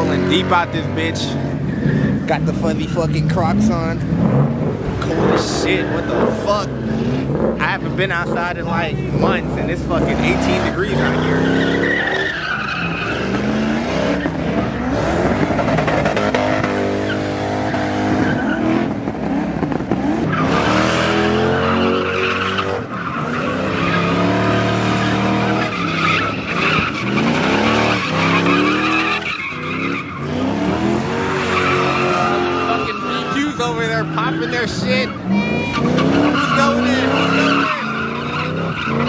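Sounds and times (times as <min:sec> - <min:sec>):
car engines revving hard: 0:00.0 - 0:39.0
tyres spinning and skidding on snow: 0:00.0 - 0:39.0.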